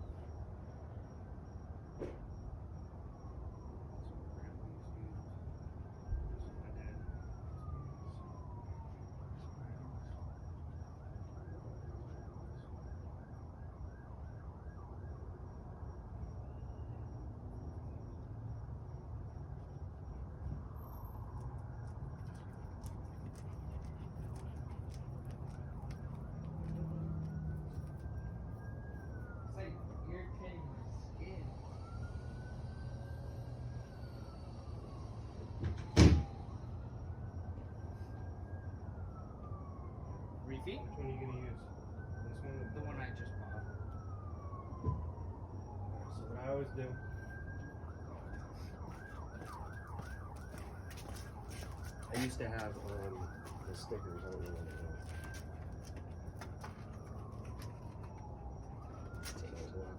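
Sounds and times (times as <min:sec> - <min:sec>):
distant siren yelping: 0:02.9 - 0:59.9.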